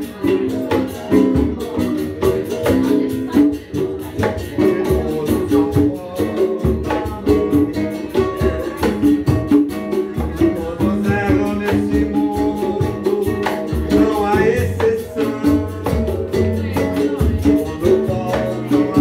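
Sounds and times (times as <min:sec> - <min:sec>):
guitars playing: 0:00.0 - 0:19.0
hand percussion beat: 0:00.0 - 0:19.0.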